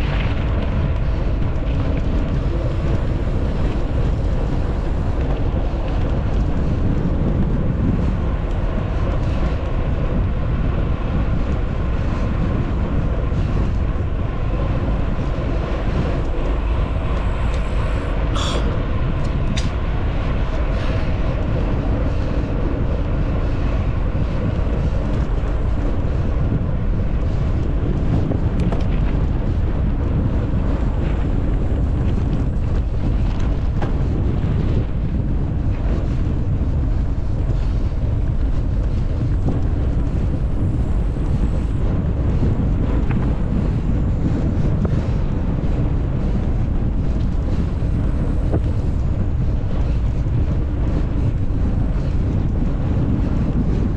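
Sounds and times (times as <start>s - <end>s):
bike tyres rumbling: 0.0s - 53.9s
wind buffeting microphone: 0.0s - 53.9s.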